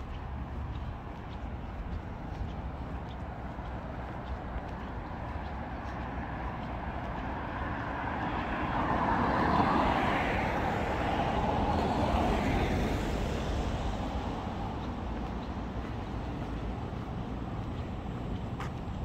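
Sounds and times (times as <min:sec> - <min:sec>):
low traffic rumble: 0:00.0 - 0:19.0
vehicle passing: 0:00.0 - 0:19.0.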